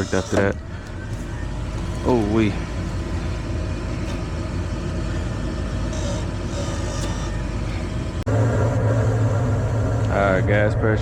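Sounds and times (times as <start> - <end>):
gas furnace running: 0.0 - 11.0
deep hum: 0.5 - 11.0.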